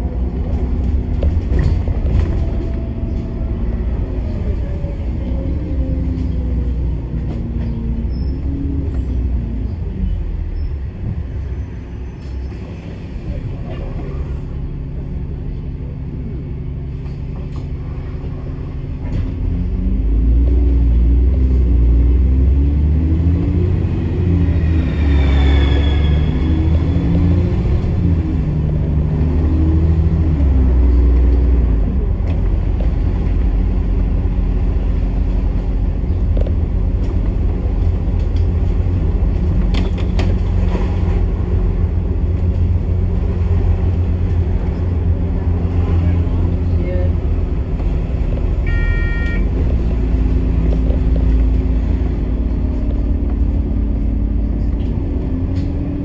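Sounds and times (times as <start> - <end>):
bus engine from inside: 0.0 - 56.0.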